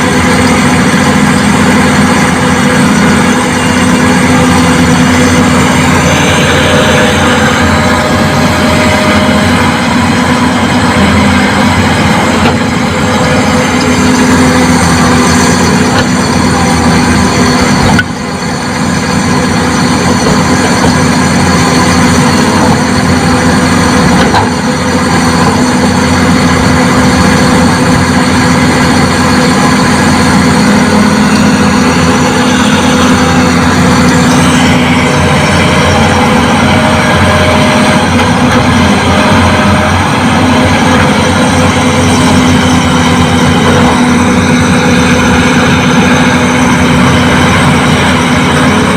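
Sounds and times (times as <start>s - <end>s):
diesel engine running loudly: 0.0s - 48.9s.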